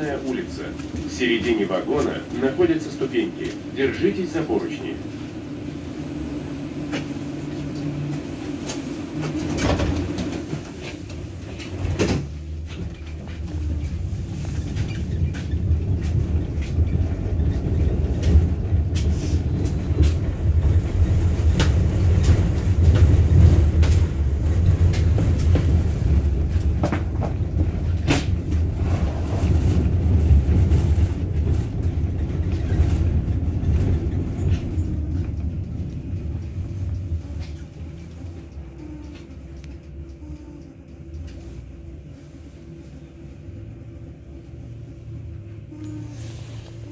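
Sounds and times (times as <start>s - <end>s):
tram wheels rumbling on rails: 0.0s - 46.9s.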